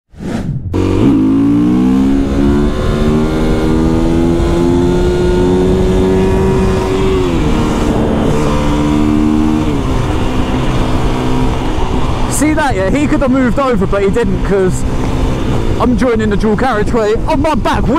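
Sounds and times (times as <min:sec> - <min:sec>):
motorcycle engine accelerating: 0:00.6 - 0:17.7.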